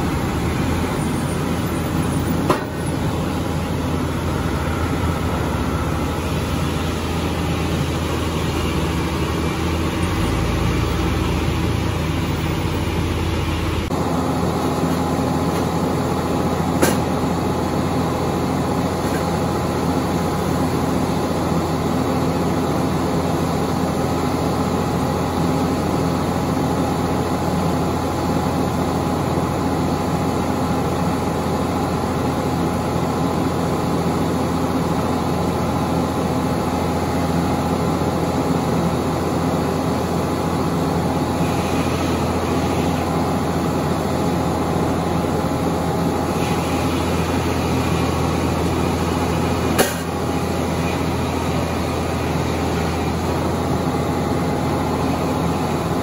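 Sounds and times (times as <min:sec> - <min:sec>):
sawmill engine drone: 0:00.0 - 0:56.0.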